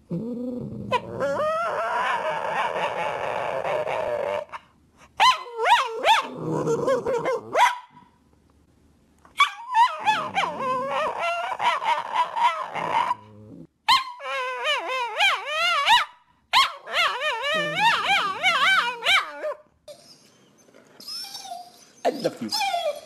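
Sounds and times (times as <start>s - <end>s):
dog whining: 0.1s - 7.7s, 9.3s - 23.0s.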